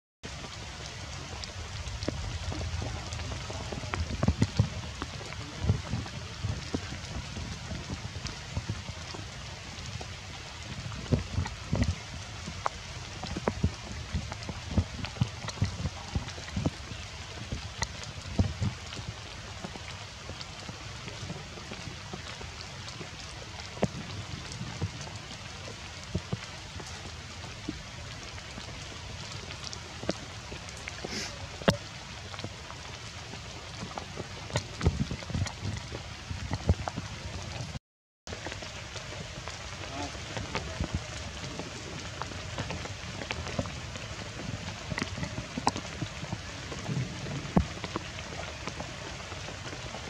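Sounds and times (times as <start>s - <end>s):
rain on foliage: 0.2s - 50.0s.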